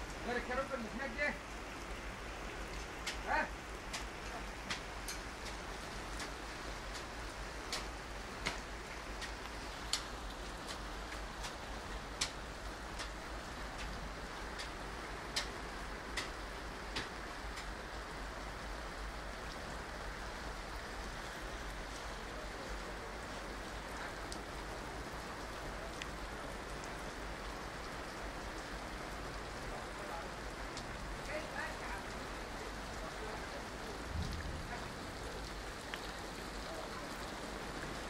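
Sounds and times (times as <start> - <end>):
rain on a tent: 0.0 - 38.0.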